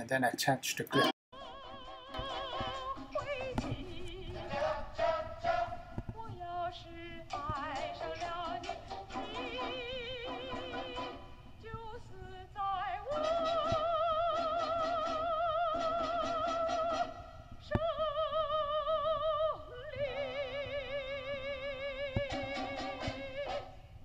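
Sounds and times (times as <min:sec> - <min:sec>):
person singing with vibrato: 0:00.9 - 0:23.8.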